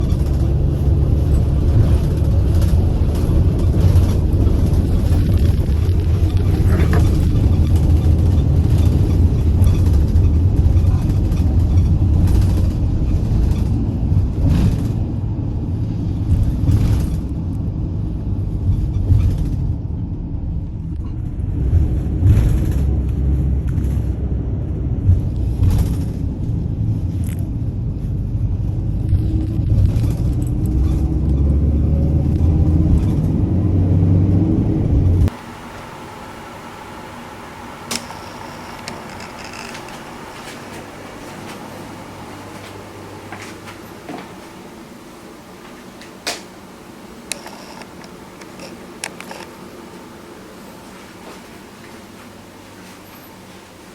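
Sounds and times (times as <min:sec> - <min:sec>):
vehicle rumble: 0:00.0 - 0:53.9.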